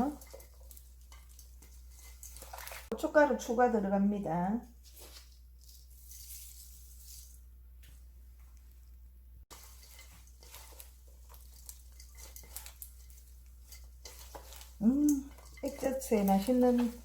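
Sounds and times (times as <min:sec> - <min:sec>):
wet squishing of vegetables tossed: 0:00.0 - 0:03.1, 0:04.7 - 0:08.9, 0:09.5 - 0:17.0.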